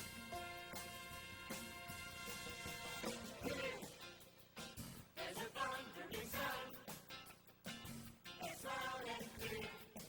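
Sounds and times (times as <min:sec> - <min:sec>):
stage show music: 0:00.0 - 0:10.0.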